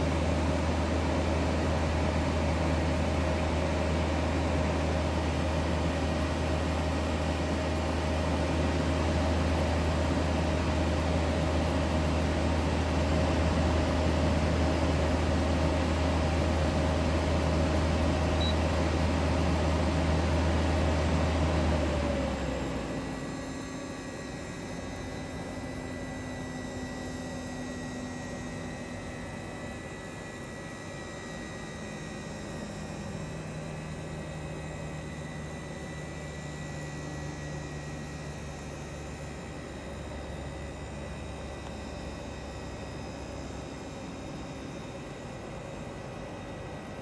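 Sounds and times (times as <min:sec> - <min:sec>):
dehumidifier humming: 0:00.0 - 0:47.0.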